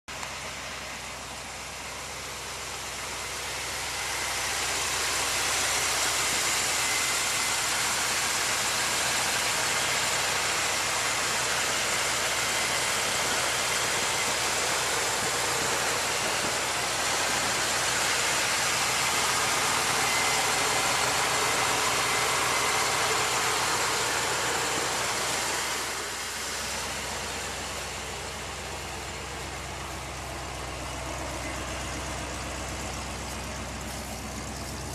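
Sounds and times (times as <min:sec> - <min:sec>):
truck engine running: 0:00.1 - 0:34.9.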